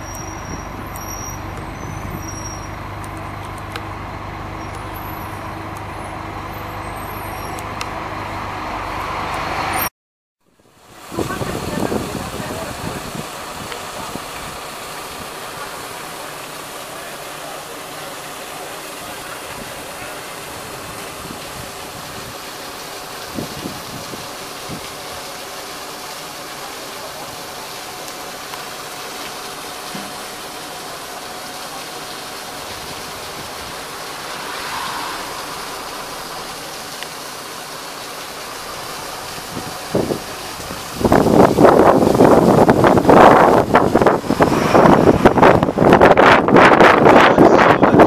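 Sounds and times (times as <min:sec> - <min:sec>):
bus running noise: 0:00.0 - 0:09.9, 0:10.5 - 0:48.0.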